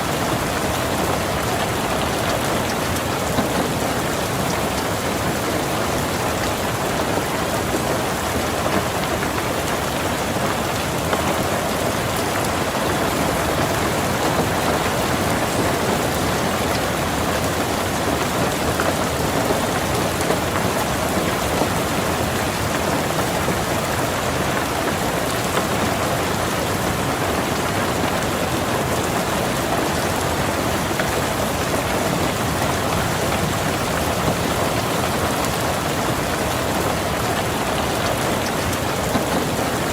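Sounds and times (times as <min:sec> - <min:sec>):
louder raindrops: 0:00.0 - 0:39.9
rain on car roof: 0:00.0 - 0:39.9.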